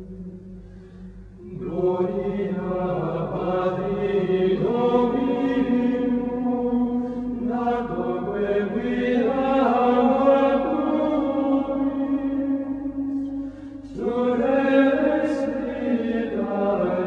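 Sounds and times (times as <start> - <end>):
voices chanting in unison: 1.4 - 17.0.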